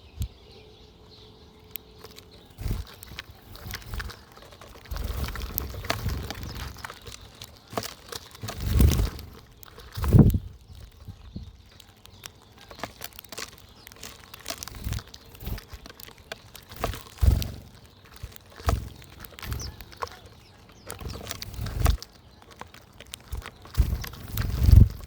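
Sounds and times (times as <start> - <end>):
birds scrabbling and pecking: 0.0 - 25.0.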